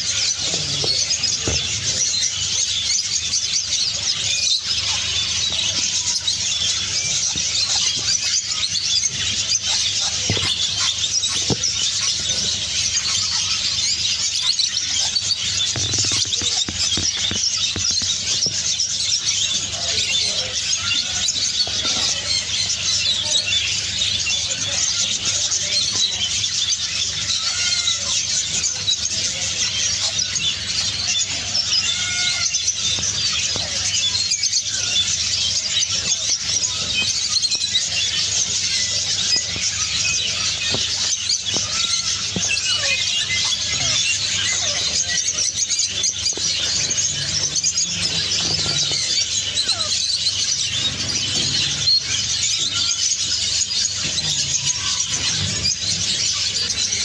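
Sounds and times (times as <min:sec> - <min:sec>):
caged birds chirping: 0:00.0 - 0:57.0
lower bird calls: 0:00.0 - 0:57.0.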